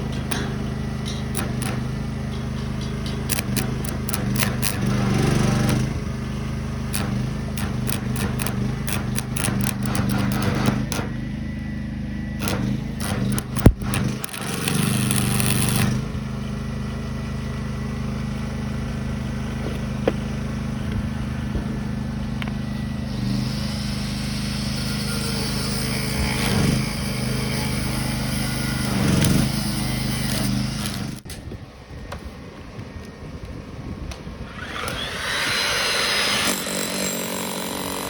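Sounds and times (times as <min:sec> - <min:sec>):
small engine running: 0:00.0 - 0:31.3, 0:34.4 - 0:38.0.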